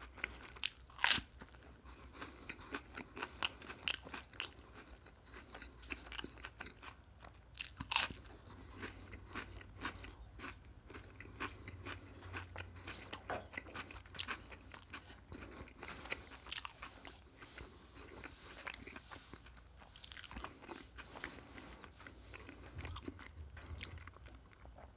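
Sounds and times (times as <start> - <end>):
person chewing crunchy food: 0.0 - 24.9.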